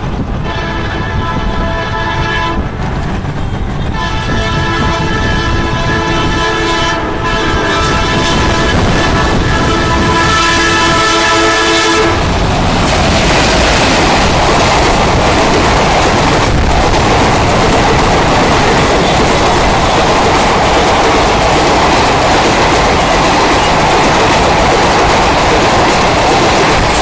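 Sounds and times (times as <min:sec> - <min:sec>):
train rushing past: 0:00.0 - 0:27.0.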